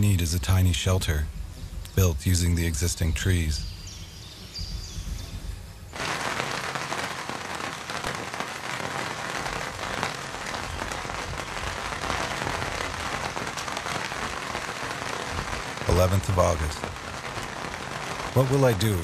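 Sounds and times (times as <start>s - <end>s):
heavy rain pattering: 0.0s - 19.0s.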